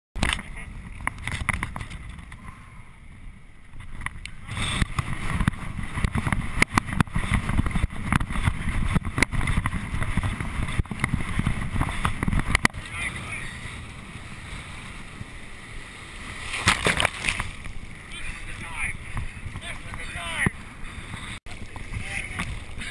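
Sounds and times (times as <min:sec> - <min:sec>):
storm wind buffeting microphone: 0:00.2 - 0:22.9.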